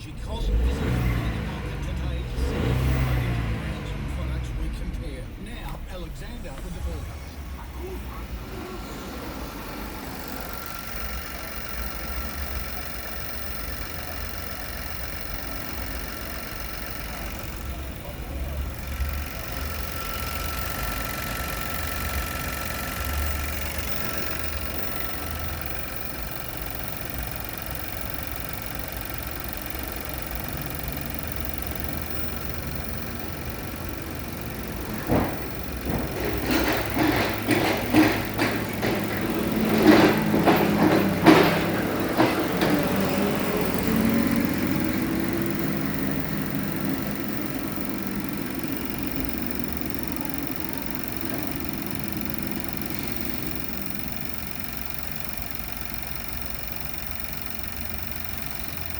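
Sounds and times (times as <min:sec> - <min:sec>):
car engine idling with whine: 0:00.0 - 0:58.9
engine knocking and clattering: 0:00.0 - 0:58.9.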